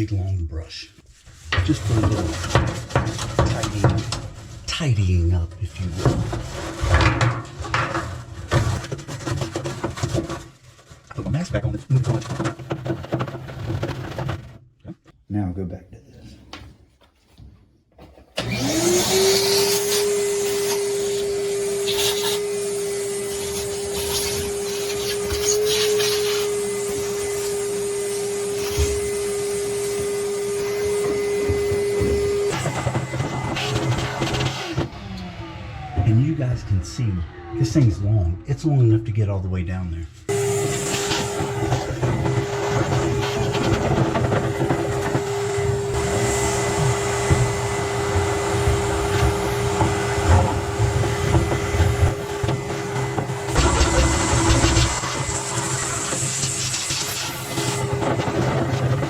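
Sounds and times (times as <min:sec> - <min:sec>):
vacuum cleaner whining: 0:01.1 - 0:14.5, 0:18.3 - 0:59.0.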